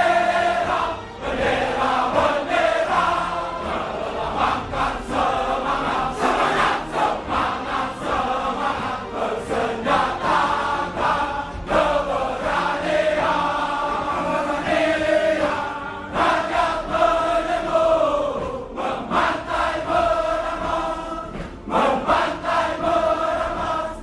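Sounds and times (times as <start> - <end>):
choir singing slow chant: 0.0 - 24.0.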